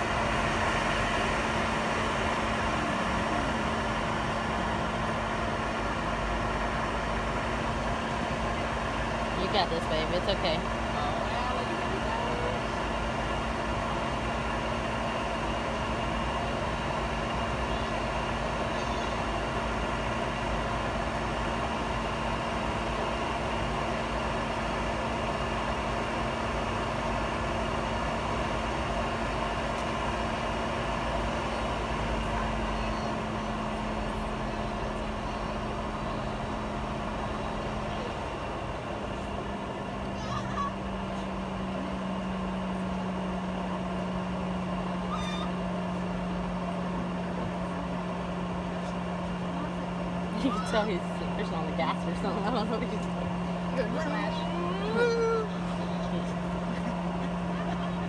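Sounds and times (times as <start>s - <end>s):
airliner engines humming: 0.0s - 58.0s.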